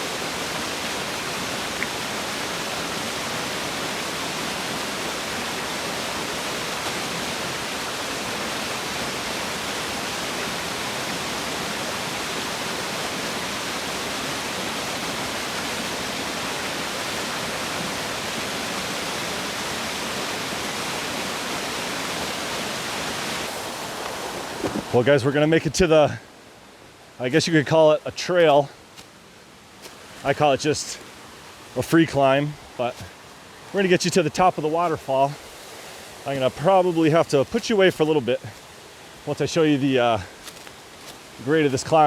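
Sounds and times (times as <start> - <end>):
waterfall rushing: 0.0 - 26.1, 30.0 - 42.0.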